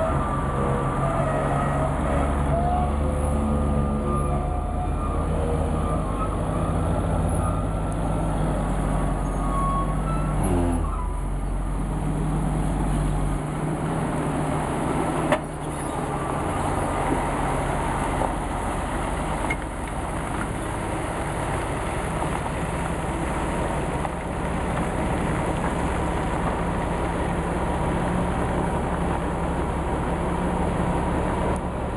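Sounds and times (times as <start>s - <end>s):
truck diesel engine driving off: 0.0s - 31.9s.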